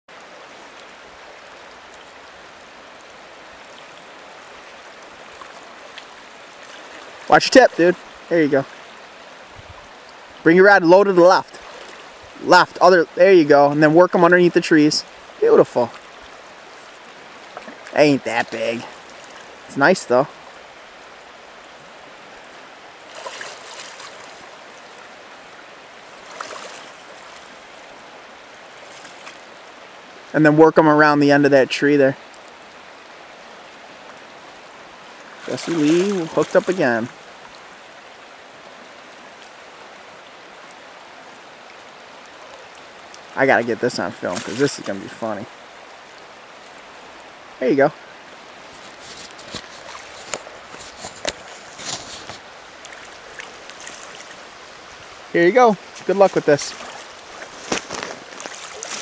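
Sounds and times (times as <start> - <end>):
river rushing: 0.1 - 59.0.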